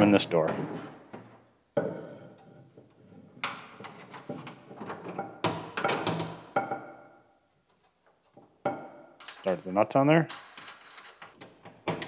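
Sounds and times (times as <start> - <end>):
metal knocking and clanking: 0.4 - 7.0, 8.6 - 12.0.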